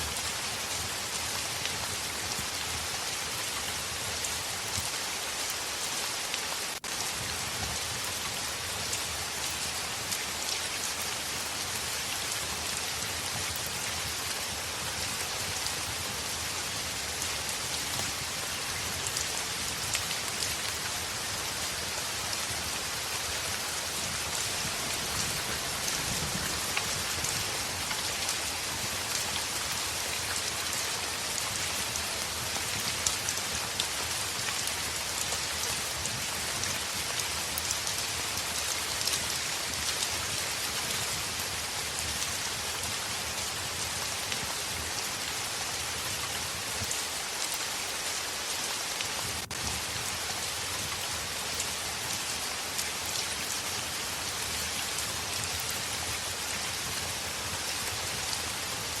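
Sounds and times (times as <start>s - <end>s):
heavy rain on window: 0.1s - 59.0s.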